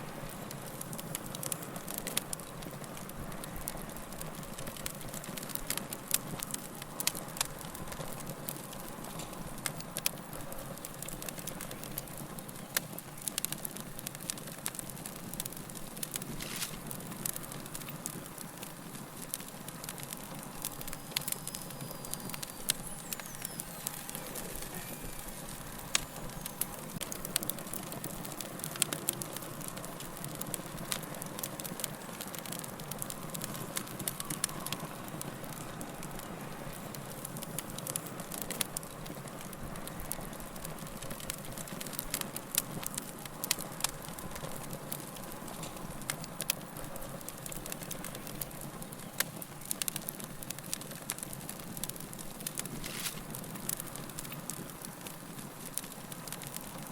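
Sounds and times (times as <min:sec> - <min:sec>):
low rush of flame: 0:00.0 - 0:56.9
wood fire crackling and popping: 0:00.0 - 0:56.9.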